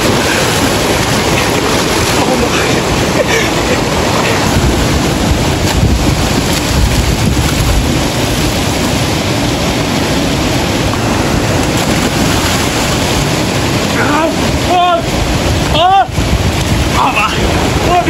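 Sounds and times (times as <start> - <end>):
stream rushing over rocks: 0.0 - 18.0
swimmers splashing: 0.0 - 18.0
wind buffeting microphone: 0.0 - 18.0.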